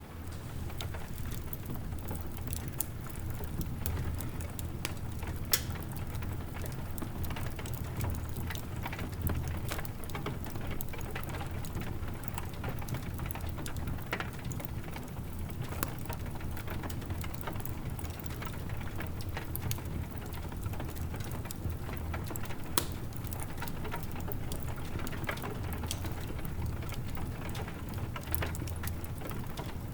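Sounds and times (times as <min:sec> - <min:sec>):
soft rainfall: 0:00.0 - 0:29.9
wood fire crackling and popping: 0:00.1 - 0:29.9.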